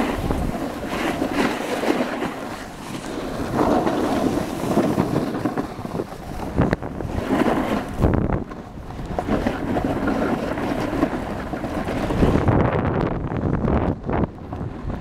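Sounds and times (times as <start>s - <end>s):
snow scraping under rider: 0.0s - 15.0s
wind buffeting microphone: 0.0s - 15.0s.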